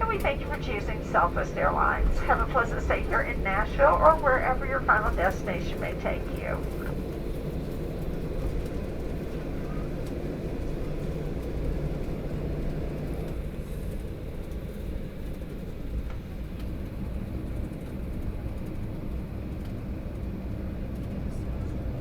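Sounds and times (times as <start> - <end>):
low rumble of aircraft taxiing: 0.0 - 22.0.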